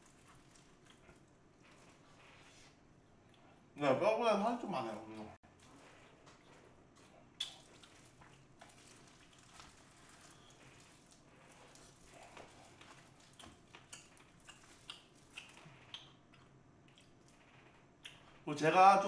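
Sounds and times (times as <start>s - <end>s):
quiet wet chewing: 0.0s - 3.8s, 5.1s - 18.5s.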